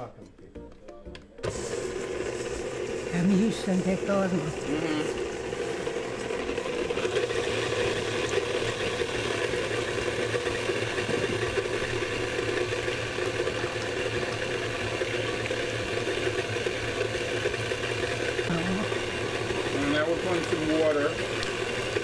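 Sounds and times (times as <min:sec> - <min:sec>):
stand mixer running: 0:01.4 - 0:22.0.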